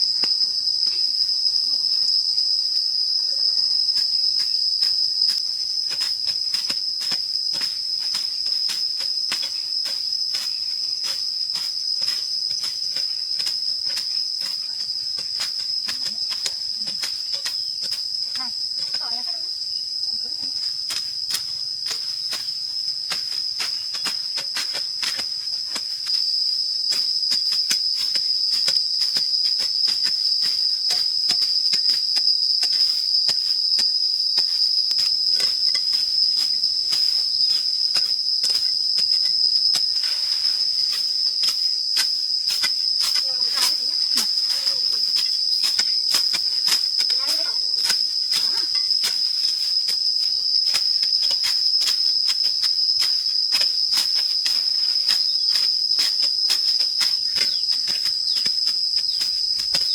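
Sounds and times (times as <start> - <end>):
shrill insect chorus: 0.0 - 59.9.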